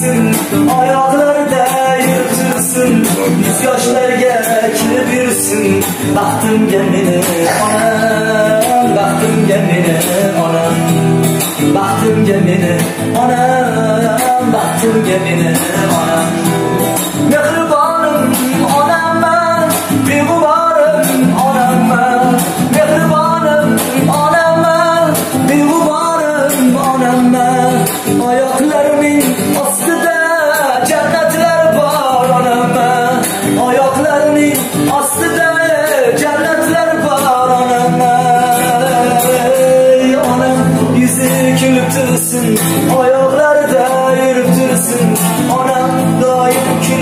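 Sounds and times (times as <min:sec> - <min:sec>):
acoustic guitar: 0:00.0 - 0:47.0
man singing slow song: 0:00.0 - 0:47.0.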